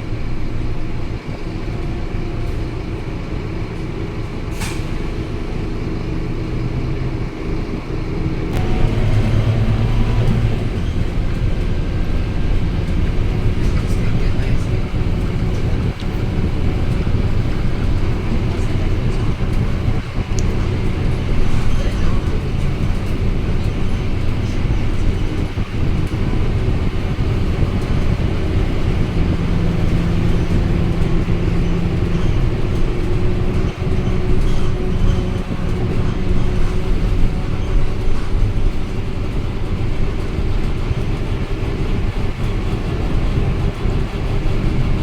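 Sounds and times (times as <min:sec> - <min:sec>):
bus diesel engine rumbling: 0:00.0 - 0:45.0
road and body noise: 0:00.0 - 0:45.0.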